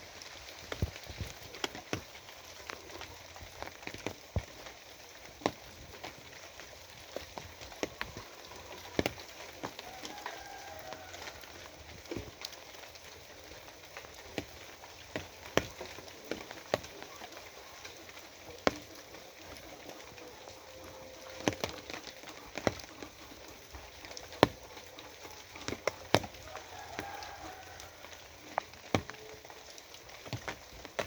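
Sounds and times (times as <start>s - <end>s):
steady rain falling: 0.0s - 31.0s
drops ticking on hard surface: 0.5s - 31.0s.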